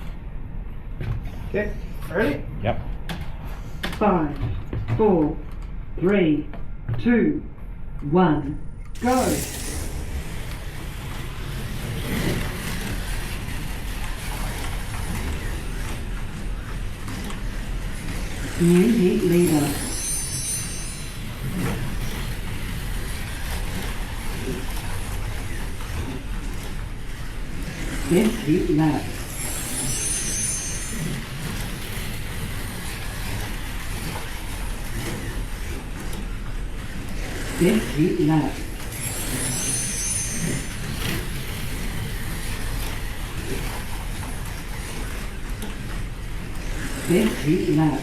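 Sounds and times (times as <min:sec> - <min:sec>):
slot cars whirring: 0:08.7 - 0:48.0
electric motors whining: 0:08.9 - 0:48.0.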